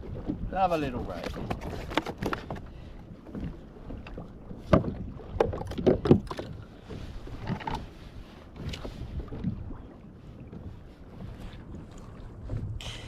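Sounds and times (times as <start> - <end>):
knocks and clunks on kayak: 0.0 - 13.0
water: 0.0 - 13.0
wind: 0.0 - 13.0.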